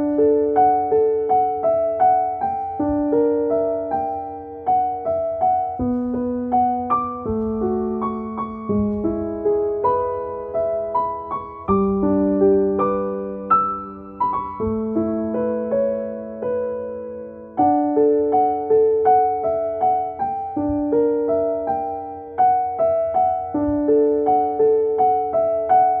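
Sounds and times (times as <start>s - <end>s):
soft slow piano music: 0.0s - 26.0s.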